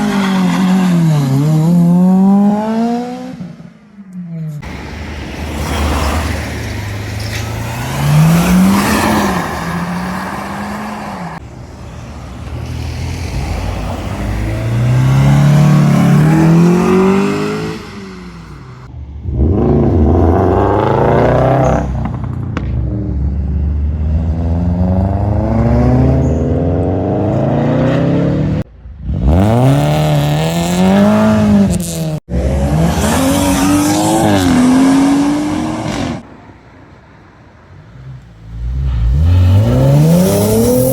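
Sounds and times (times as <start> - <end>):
car engines revving hard: 0.0 - 3.6, 4.6 - 36.2, 37.8 - 40.9.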